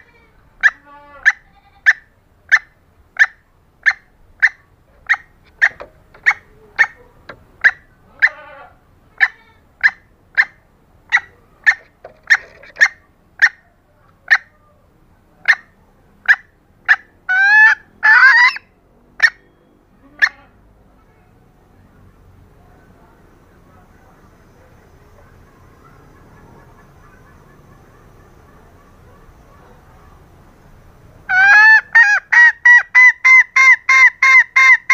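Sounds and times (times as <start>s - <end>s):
hen clucks: 0.0s - 14.7s, 15.4s - 20.6s, 22.9s - 30.6s, 31.2s - 34.9s
rising and falling hen calls: 0.0s - 14.8s, 15.4s - 20.7s, 23.6s - 30.3s, 31.2s - 34.9s.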